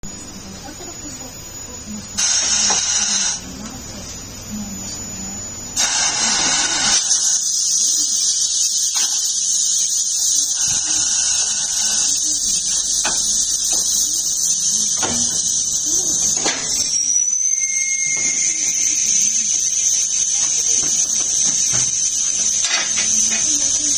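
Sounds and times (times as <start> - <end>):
tyre machine whine and hiss: 0.0 - 3.9, 5.7 - 23.9.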